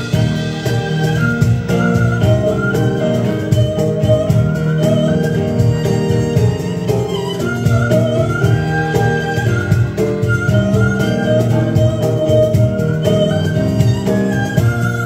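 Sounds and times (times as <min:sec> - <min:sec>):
gliding instrumental melody: 0:00.0 - 0:15.0
plucked strings: 0:00.0 - 0:15.0.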